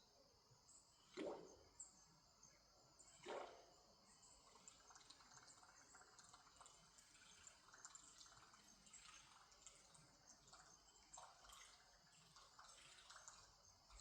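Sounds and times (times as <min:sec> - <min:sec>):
river water dripping and trickling: 0:00.9 - 0:14.0
soft water plop: 0:01.0 - 0:01.9, 0:03.0 - 0:03.8, 0:04.4 - 0:14.0.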